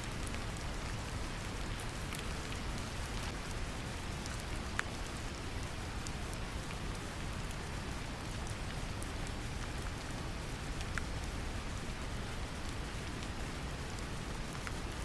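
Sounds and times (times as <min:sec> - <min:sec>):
gentle rain drops ticking: 0:00.0 - 0:15.0.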